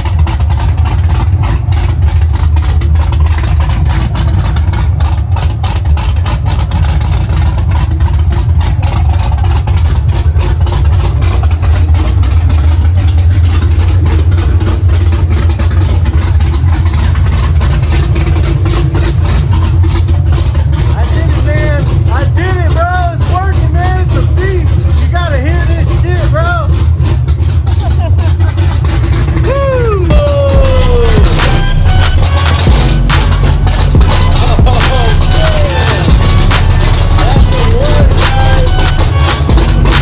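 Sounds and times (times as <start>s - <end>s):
car engine idling with choppy lope: 0.0s - 40.0s.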